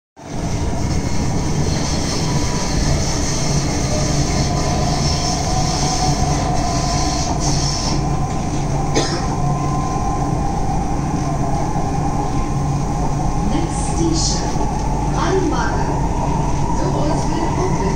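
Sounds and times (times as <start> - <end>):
train wheels and motors rumbling: 0.2 - 17.9.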